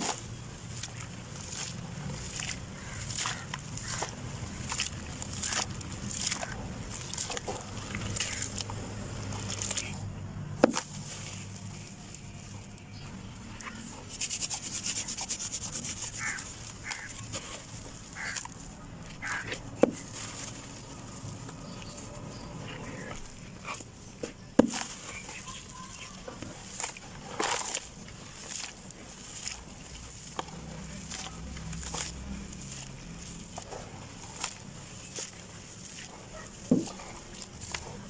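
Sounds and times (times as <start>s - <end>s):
dried cement crumbling: 0.0s - 38.0s.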